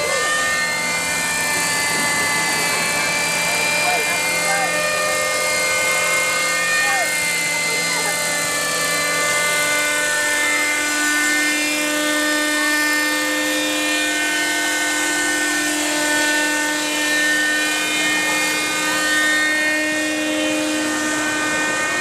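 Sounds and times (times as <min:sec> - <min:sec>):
model helicopter engine buzzing: 0:00.0 - 0:22.0.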